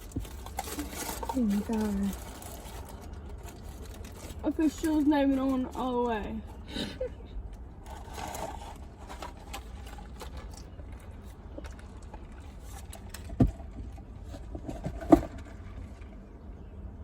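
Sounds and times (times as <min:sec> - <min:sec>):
faint clicks and rustles: 0:00.0 - 0:16.4.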